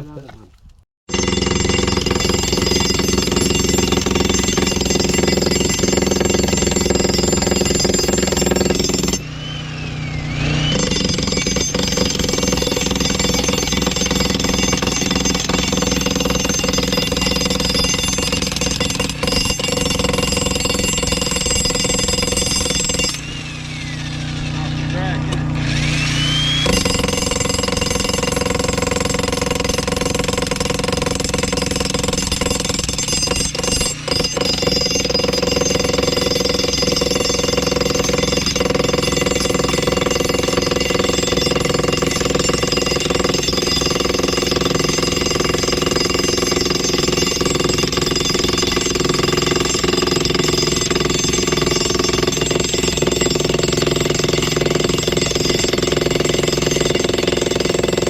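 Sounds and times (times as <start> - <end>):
jackhammer hammering concrete: 1.1 - 58.0.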